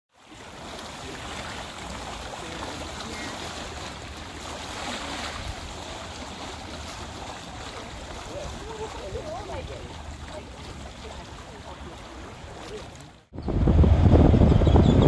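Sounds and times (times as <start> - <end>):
waves lapping against rocks: 0.1 - 13.3.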